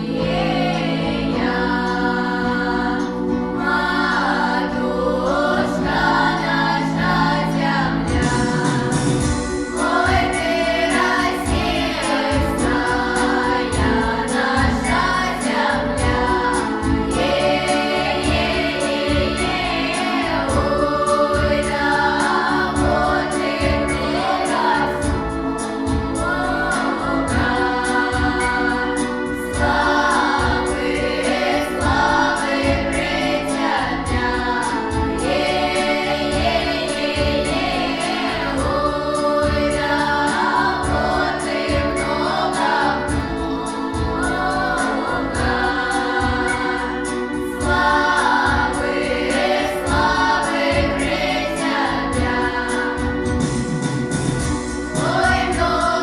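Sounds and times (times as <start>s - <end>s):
choir singing with accompaniment: 0.0s - 56.0s.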